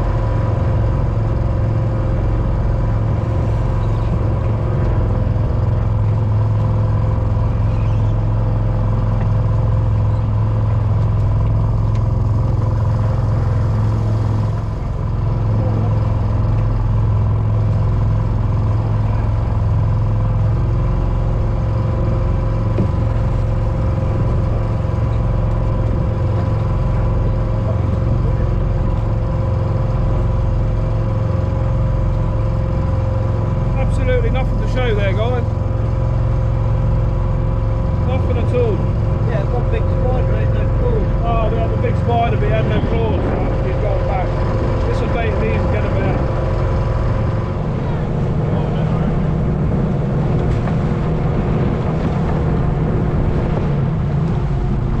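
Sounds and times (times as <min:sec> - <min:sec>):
boat engine humming: 0:00.0 - 0:55.0.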